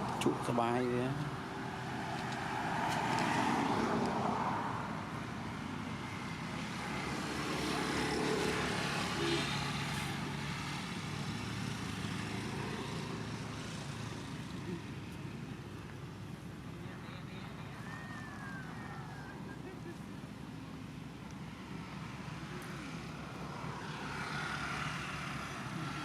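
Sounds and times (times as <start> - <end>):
vehicle passing: 0.0 - 26.0.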